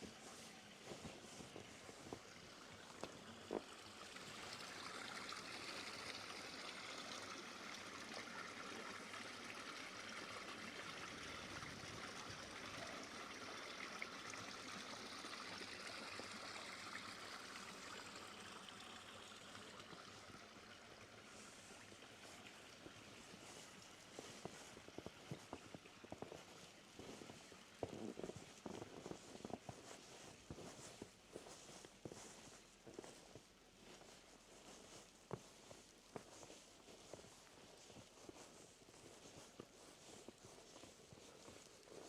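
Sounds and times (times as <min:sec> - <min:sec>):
faint running water: 0:00.0 - 0:42.0.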